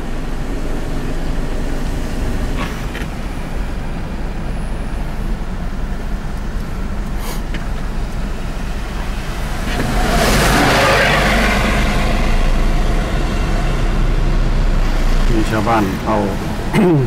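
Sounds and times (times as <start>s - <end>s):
car engine and tyre rumble: 0.0s - 17.0s
road noise hiss: 0.0s - 17.0s.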